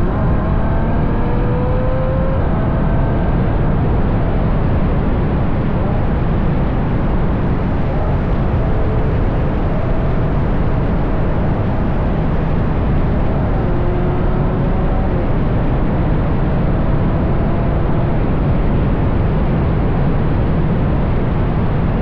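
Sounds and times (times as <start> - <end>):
faint car engine: 0.0 - 22.0
wind rush on microphone: 0.0 - 22.0.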